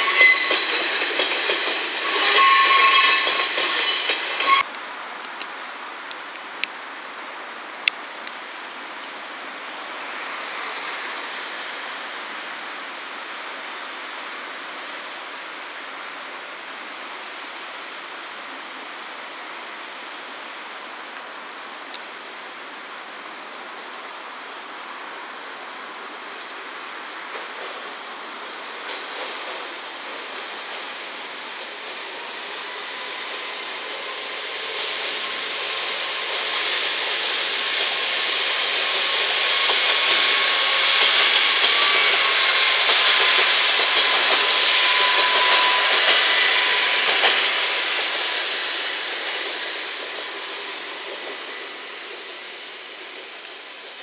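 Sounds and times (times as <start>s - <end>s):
train engine and track rumble: 0.0s - 54.0s.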